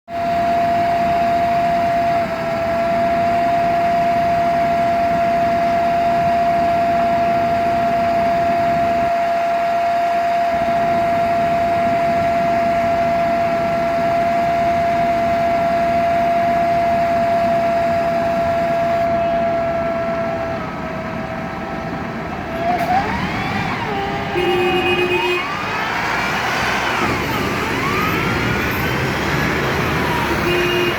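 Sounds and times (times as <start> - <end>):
transmission whine: 0.1 - 30.9
bus engine idling: 0.2 - 30.9.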